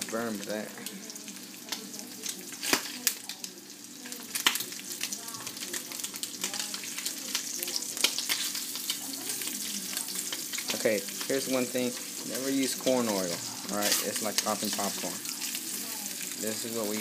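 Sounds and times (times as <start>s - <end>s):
sausages sizzling in hot oil: 0.0s - 17.0s.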